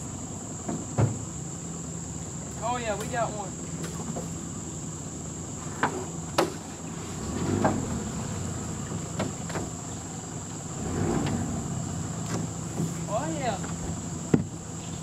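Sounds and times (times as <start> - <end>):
insects droning high-pitched: 0.0 - 15.0.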